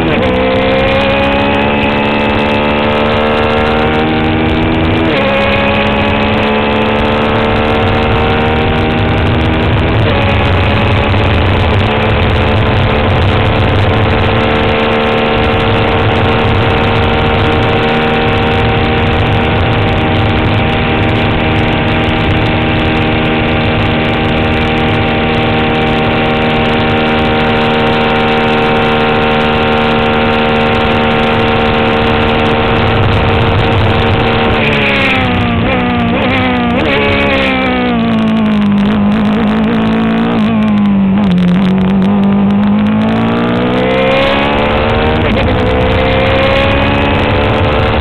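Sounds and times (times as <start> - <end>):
race car engine at high revs: 0.0 - 48.0.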